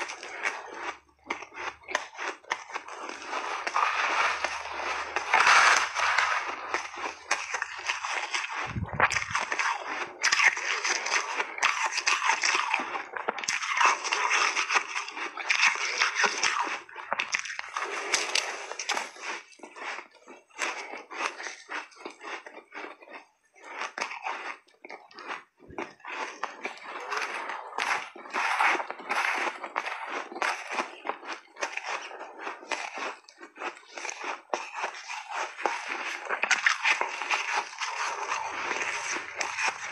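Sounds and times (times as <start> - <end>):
chewing ice crunching: 0.0 - 39.9.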